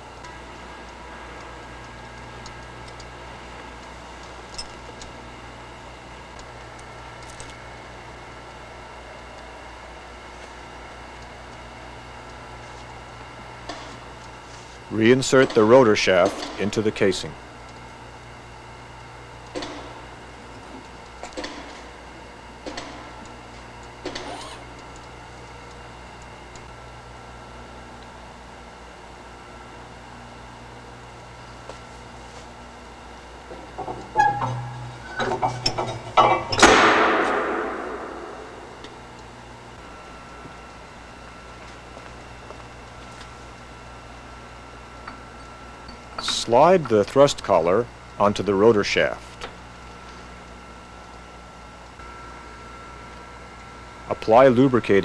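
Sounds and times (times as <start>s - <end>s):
low hum and hiss: 0.0s - 55.0s.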